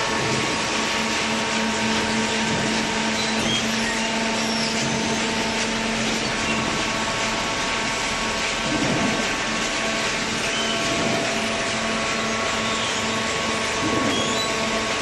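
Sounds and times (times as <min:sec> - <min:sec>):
electric motor and pump droning: 0:00.0 - 0:15.0.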